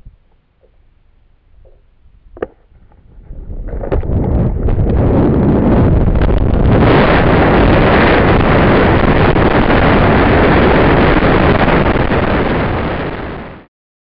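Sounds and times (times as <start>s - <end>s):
air rushing over microphone: 1.6s - 13.7s.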